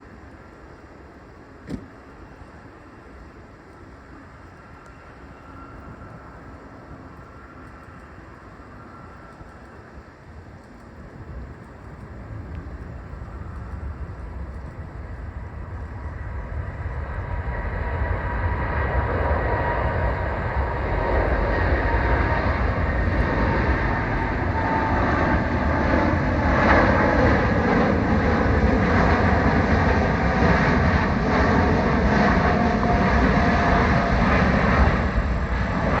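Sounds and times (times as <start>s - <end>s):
jet engines at takeoff power: 0.0s - 36.0s.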